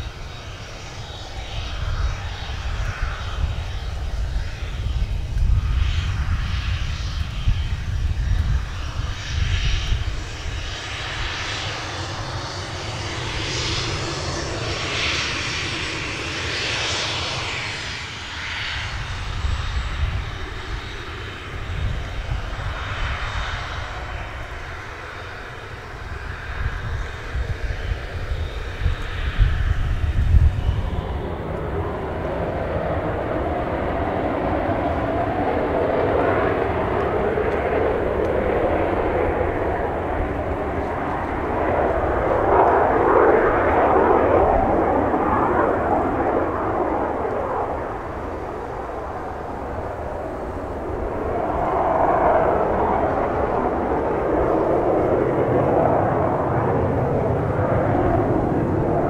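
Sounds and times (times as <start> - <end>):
jet engines: 0.0 - 59.0.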